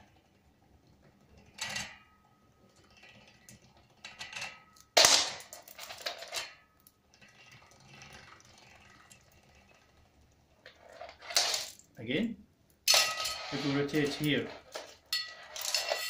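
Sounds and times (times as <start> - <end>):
bicycle chain clicking and rattling: 0.0 - 12.0, 12.8 - 16.0.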